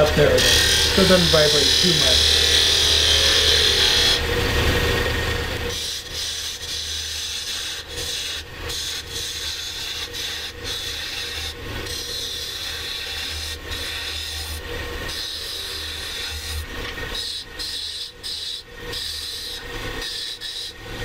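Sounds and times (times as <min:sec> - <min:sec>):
turning tool scraping wood: 0:00.0 - 0:21.0
wood lathe humming: 0:00.0 - 0:21.0.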